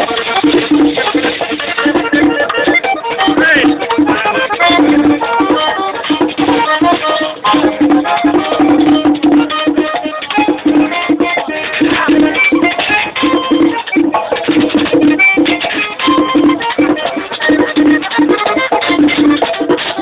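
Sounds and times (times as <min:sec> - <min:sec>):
button accordion melody: 0:00.0 - 0:20.0
steady percussion: 0:00.0 - 0:20.0.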